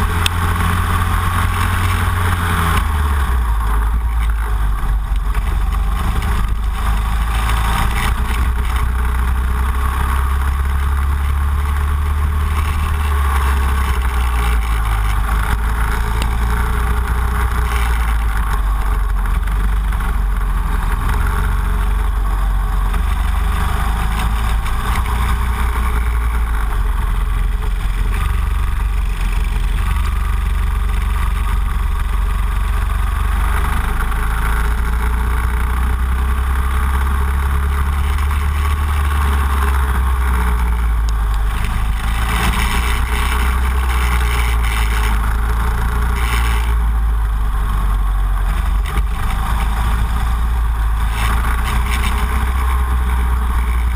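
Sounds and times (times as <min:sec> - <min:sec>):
go-kart engine running hard: 0:00.0 - 0:53.9.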